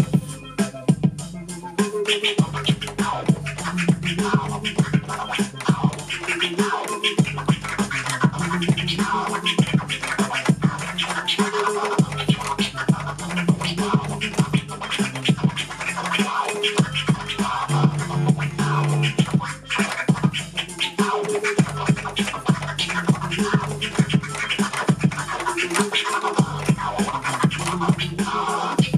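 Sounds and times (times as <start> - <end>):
looping beat: 0.0 - 28.9
vinyl record scratching: 0.0 - 28.9.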